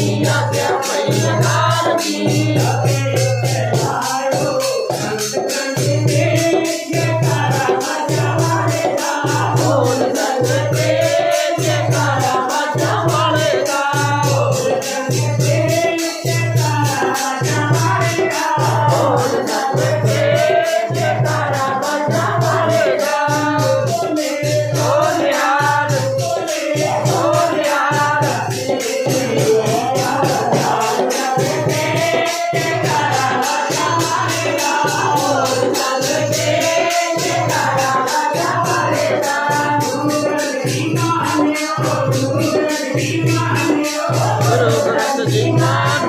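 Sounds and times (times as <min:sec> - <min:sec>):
group devotional singing: 0:00.0 - 0:46.0
jingling hand percussion: 0:00.0 - 0:46.0
woman singing into microphone: 0:00.0 - 0:46.0.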